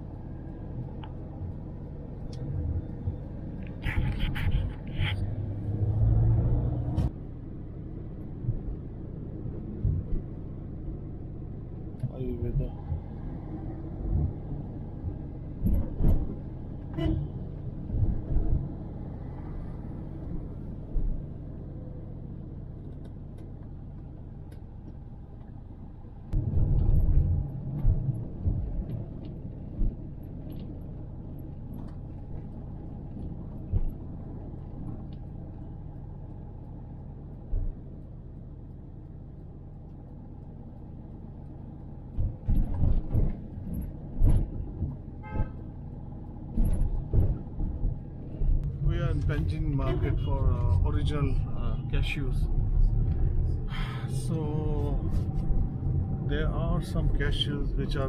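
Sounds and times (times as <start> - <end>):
car road rumble from inside: 0.0 - 58.0.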